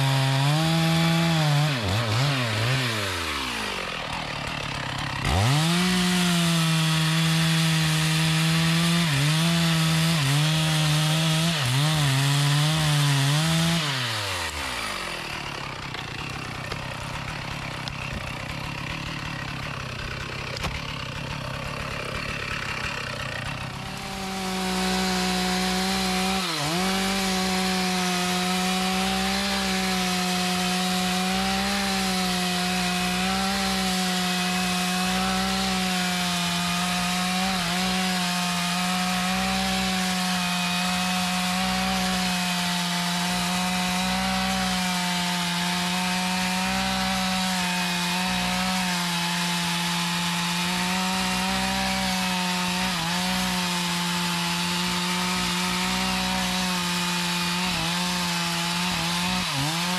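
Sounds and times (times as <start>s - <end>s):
chainsaw cutting a tree: 0.0s - 59.9s.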